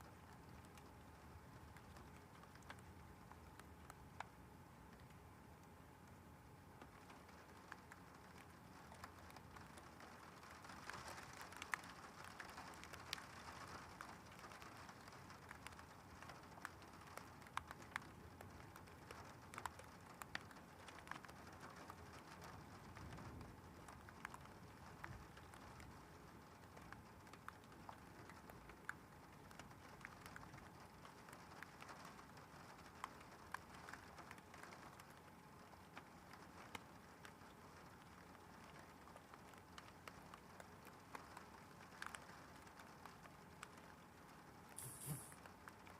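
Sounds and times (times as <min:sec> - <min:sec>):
faint steady rain: 0:00.0 - 0:45.9
raindrops ticking: 0:00.0 - 0:45.9.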